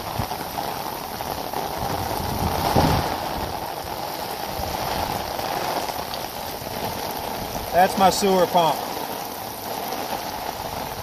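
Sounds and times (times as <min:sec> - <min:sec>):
heavy rain: 0:00.0 - 0:11.0
water gushing from pump outlet: 0:00.0 - 0:11.0.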